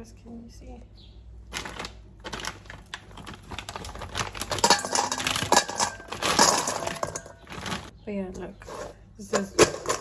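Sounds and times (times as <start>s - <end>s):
small objects clattering on kitchenware: 1.5s - 10.0s.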